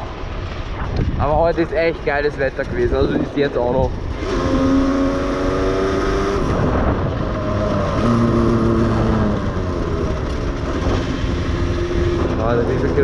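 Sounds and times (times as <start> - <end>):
moped engine running: 0.0 - 13.0
wind rush: 0.0 - 13.0.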